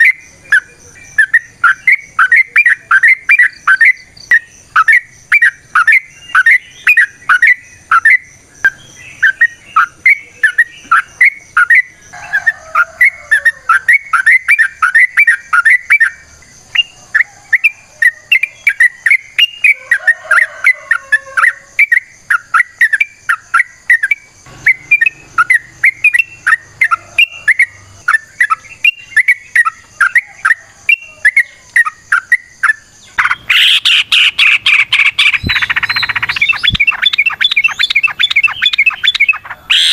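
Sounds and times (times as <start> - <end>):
bird singing whistled notes: 0.0 - 39.9
louder bird calling: 0.0 - 39.9.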